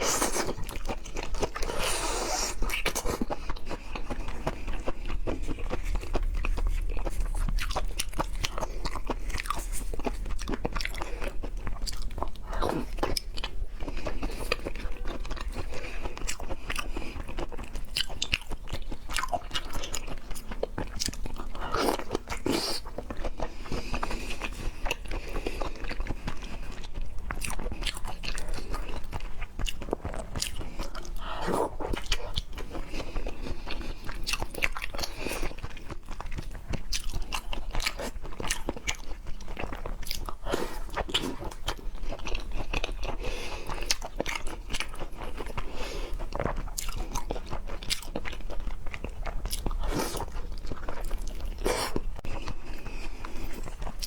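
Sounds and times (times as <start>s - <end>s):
chewing and biting: 0.0s - 54.0s.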